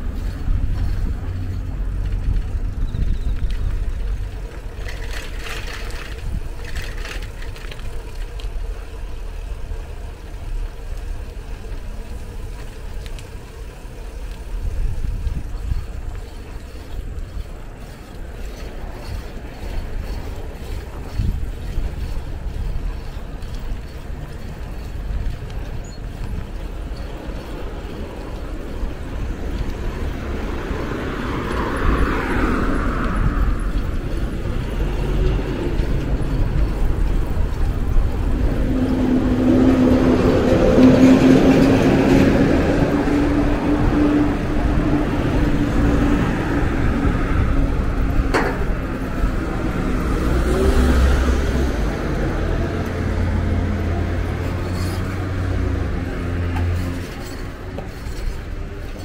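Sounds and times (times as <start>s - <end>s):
low traffic rumble: 0.0s - 59.0s
motor vehicle engine hum: 0.0s - 59.0s.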